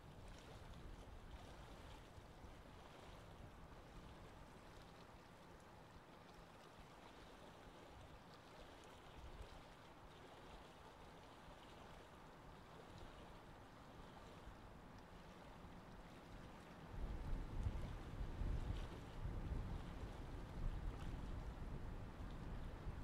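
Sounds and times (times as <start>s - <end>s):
choppy sea water: 0.0s - 23.0s
wind: 0.0s - 23.0s.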